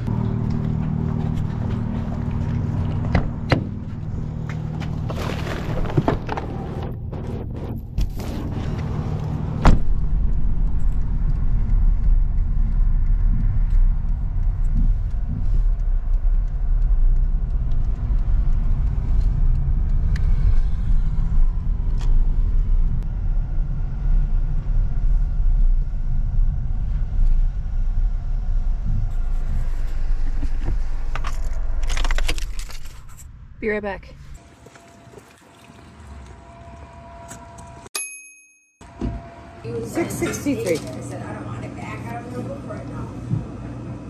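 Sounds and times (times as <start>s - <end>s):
car engine and road rumble: 0.0s - 37.9s.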